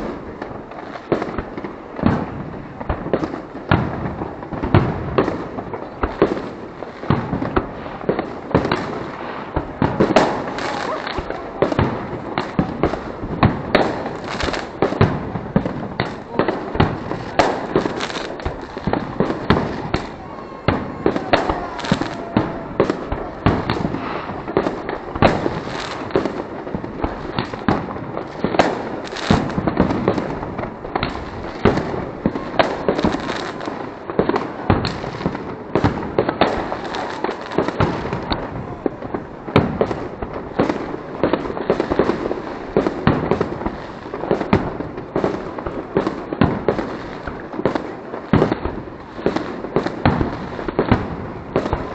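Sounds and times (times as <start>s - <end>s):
fireworks bangs and cracks: 0.0s - 51.9s.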